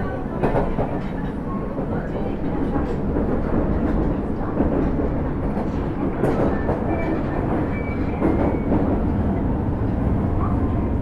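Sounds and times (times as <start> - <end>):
subway wheels rumbling on rail: 0.0 - 11.0.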